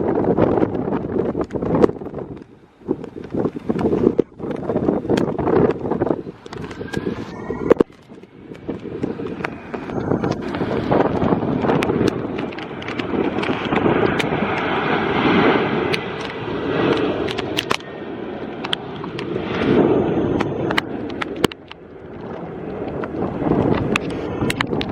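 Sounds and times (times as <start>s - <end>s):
gusty wind on microphone: 0.0s - 24.9s.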